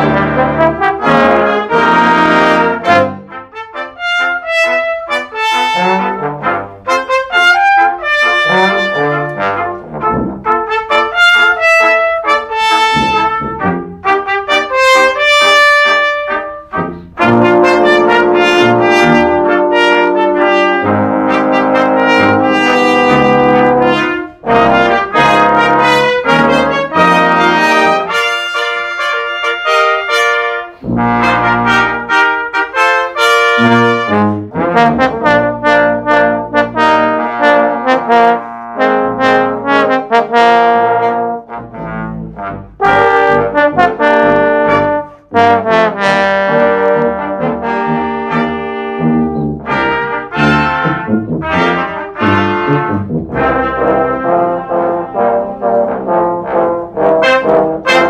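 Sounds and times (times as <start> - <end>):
brass ensemble playing: 0.0 - 58.0.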